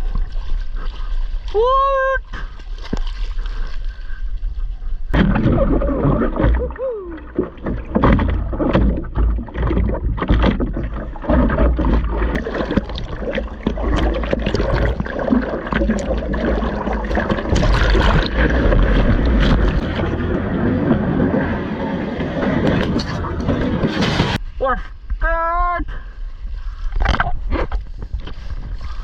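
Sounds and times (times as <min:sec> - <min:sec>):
sea water splashing: 0:00.0 - 0:24.4.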